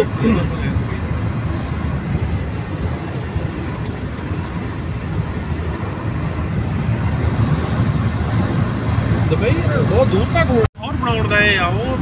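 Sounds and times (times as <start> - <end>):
car driving interior rumble: 0.0 - 12.0.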